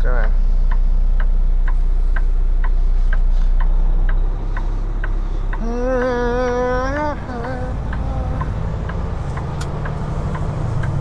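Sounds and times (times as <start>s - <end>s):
diesel engine idling: 0.0s - 11.0s
turn signal clicking: 0.2s - 11.0s.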